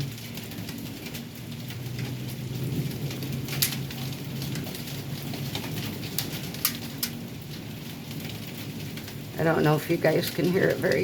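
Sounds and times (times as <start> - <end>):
hailstones ticking: 0.0 - 11.0
heavy rain hiss: 0.0 - 11.0.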